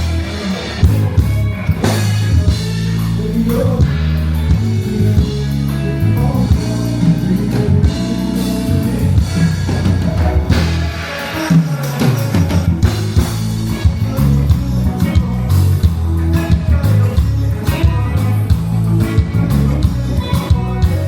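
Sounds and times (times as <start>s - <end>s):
band music over sound system: 0.0s - 21.0s
heavy bass line: 0.0s - 21.0s.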